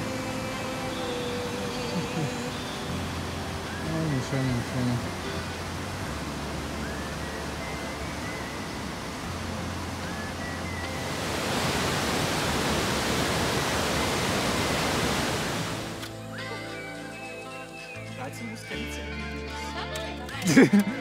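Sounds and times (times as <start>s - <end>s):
river rapids roaring over boulders: 0.0s - 17.4s.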